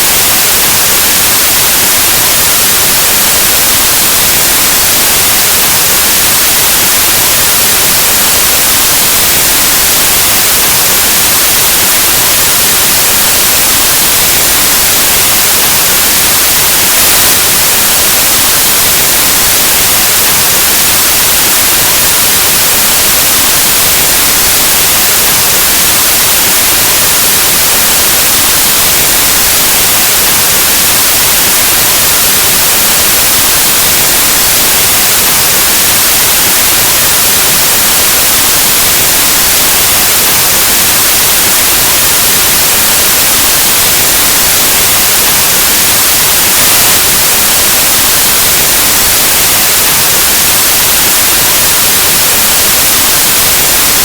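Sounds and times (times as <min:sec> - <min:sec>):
static white noise hiss: 0:00.0 - 0:54.0.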